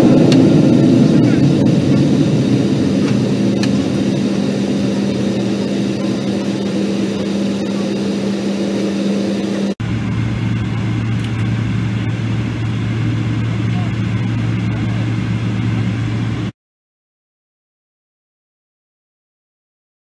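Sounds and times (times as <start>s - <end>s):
jet engines idling rumble: 0.0s - 16.5s
steady cabin hum: 0.0s - 16.5s.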